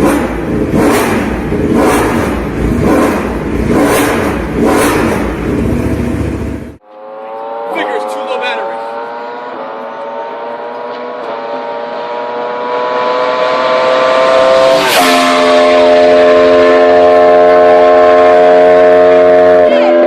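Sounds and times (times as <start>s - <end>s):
motorbike engine accelerating: 0.0s - 20.0s.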